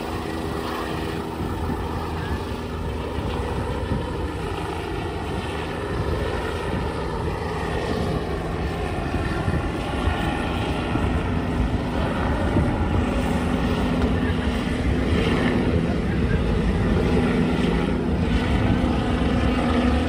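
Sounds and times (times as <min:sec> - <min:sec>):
helicopter flying overhead: 0:00.0 - 0:20.0.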